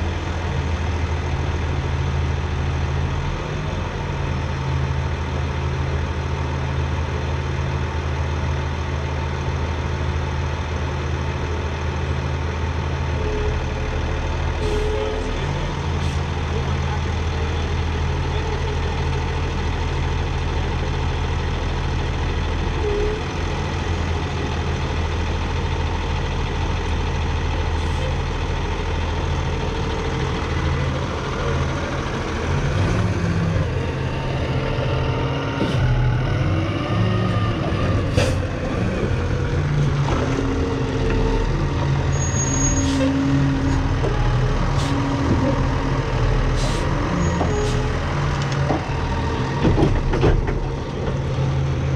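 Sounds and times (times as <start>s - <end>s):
heavy machine engine: 0.0s - 51.9s.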